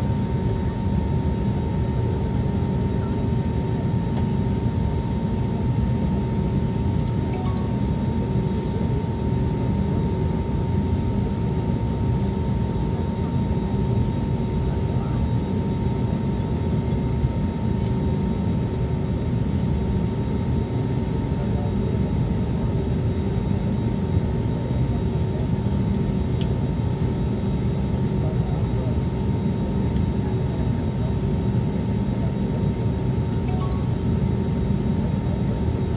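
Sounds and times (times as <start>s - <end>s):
airplane cabin engine rumble: 0.0s - 35.9s
constant high whine: 0.0s - 35.9s.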